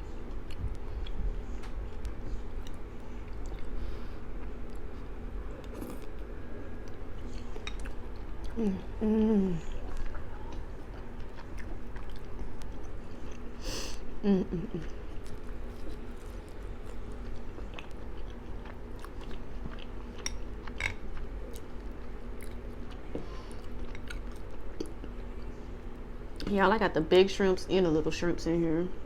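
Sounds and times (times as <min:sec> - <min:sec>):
person chewing food: 0:00.2 - 0:13.6, 0:14.5 - 0:26.5.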